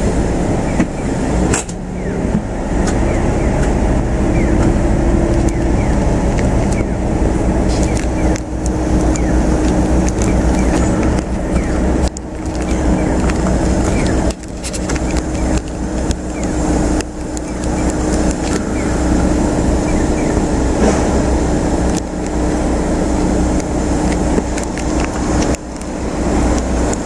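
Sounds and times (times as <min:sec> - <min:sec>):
car engine idling: 0:00.0 - 0:27.0
passing road traffic: 0:00.0 - 0:27.0.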